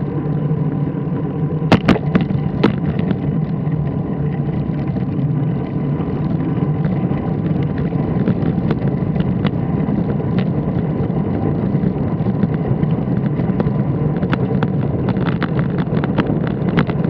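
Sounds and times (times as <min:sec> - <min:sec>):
vehicle rolling on paved street: 0:00.0 - 0:17.0
sharp clicks and rattles: 0:01.7 - 0:17.0.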